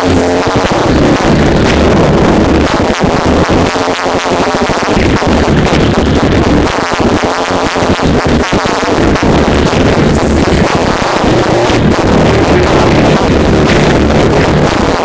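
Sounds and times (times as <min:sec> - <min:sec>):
electronic music with pulsing bass: 0:00.0 - 0:15.0.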